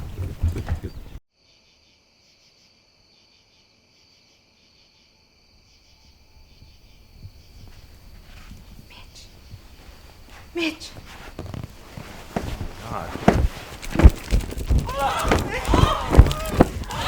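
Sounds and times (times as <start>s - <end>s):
crickets chirping: 1.4s - 17.0s.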